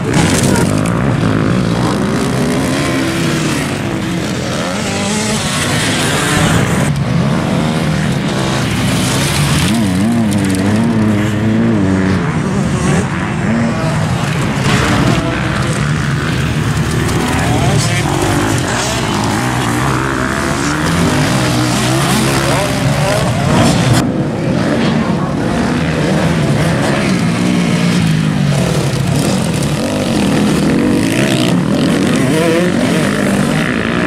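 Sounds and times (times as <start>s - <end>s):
dirt bike engines revving: 0.0s - 34.0s
dirt bike passing close: 0.0s - 34.0s.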